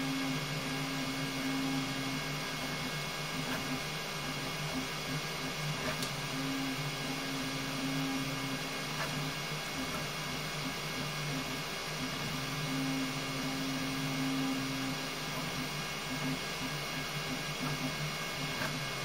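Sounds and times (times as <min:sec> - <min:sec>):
printer motors whining: 0:00.0 - 0:19.0.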